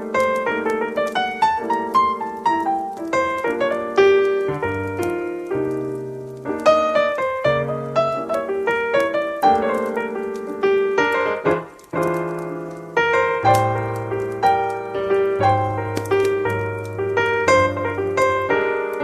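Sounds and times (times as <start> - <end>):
slow jazz piano: 0.0 - 19.0.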